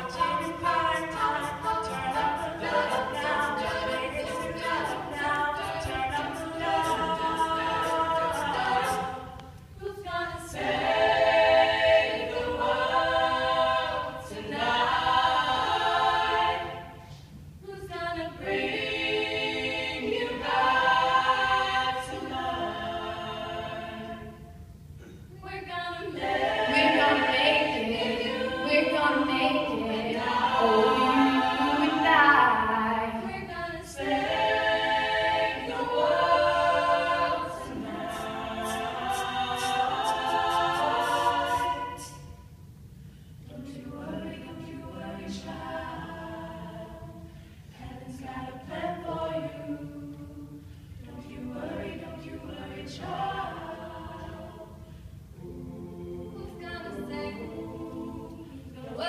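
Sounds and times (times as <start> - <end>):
a cappella choir singing: 0.0 - 59.0.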